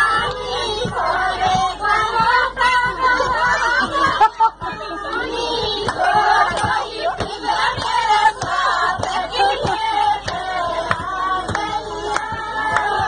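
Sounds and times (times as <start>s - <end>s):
rhythmic hand clapping: 0.0s - 13.0s
women singing together: 0.0s - 13.0s.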